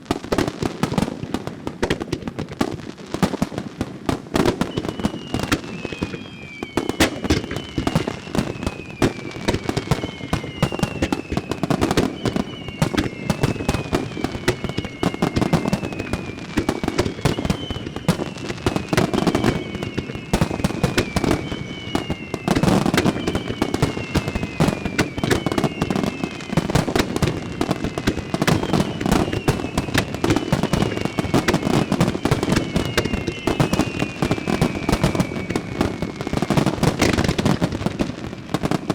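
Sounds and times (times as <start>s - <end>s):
fireworks bursting and crackling: 0.0s - 38.9s
whistling firework shells: 0.1s - 38.9s.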